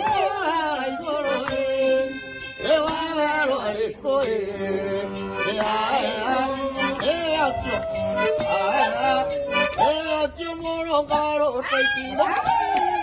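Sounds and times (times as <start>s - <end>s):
accordion music: 0.0s - 11.6s
person singing: 0.0s - 13.0s.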